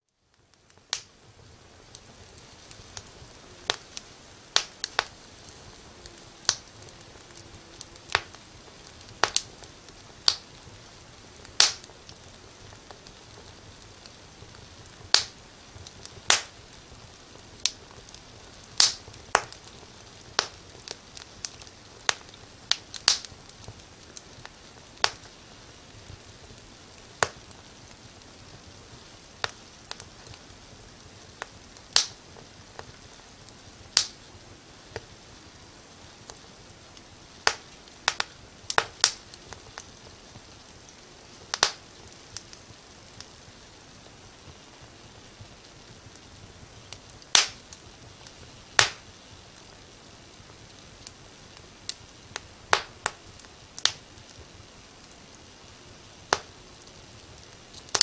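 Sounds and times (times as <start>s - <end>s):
fireplace fire crackling and popping: 0.0s - 58.0s.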